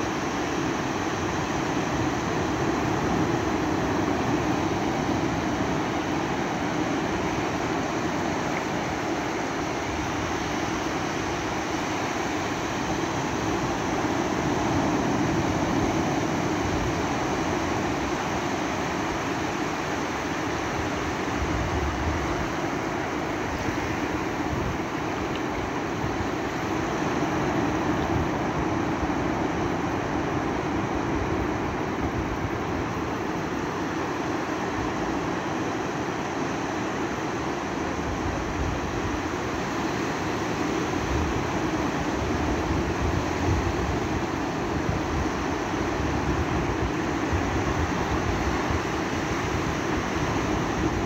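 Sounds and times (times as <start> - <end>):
ocean surf on beach: 0.0 - 51.0.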